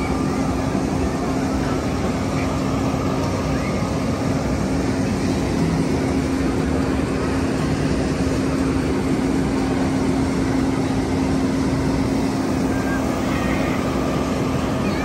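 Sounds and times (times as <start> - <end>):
fire engine water pump droning: 0.0 - 15.0
hose stream spraying water: 0.0 - 15.0.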